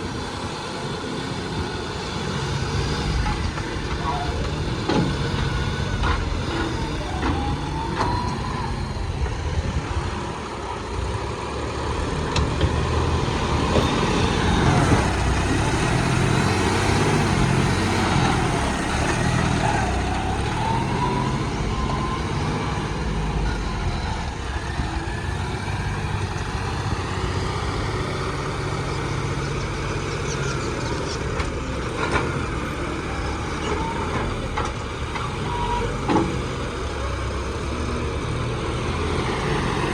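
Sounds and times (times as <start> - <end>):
heavy diesel engines rumbling: 0.0 - 39.9.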